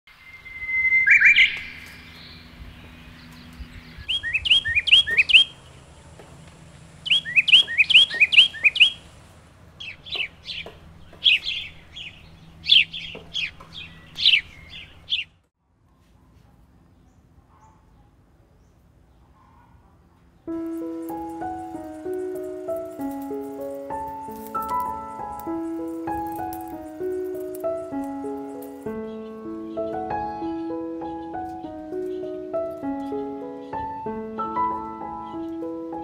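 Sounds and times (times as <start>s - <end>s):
birds chirping: 0.1s - 15.5s, 16.8s - 36.0s.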